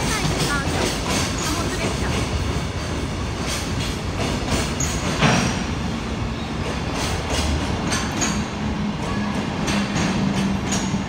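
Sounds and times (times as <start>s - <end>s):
freight train rolling over rail joints: 0.0s - 11.0s
train wagons clattering: 0.0s - 11.0s.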